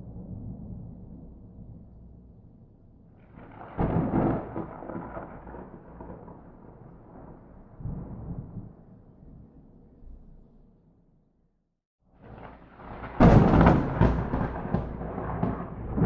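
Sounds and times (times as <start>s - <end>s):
thunder crack and rumble: 0.0s - 9.7s, 12.2s - 16.0s.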